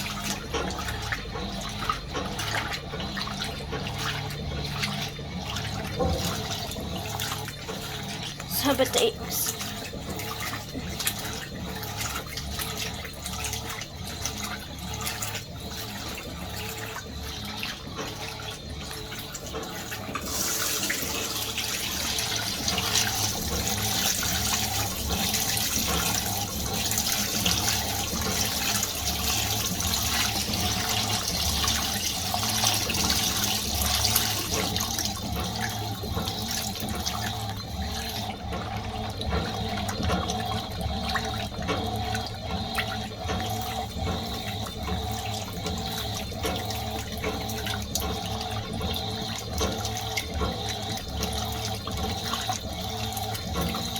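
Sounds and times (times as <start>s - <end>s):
washing machine filling with water: 0.0s - 53.9s.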